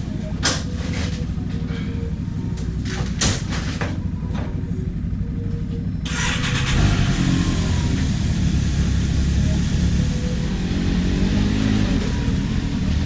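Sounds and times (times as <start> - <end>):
engine starting and running: 0.0 - 13.0.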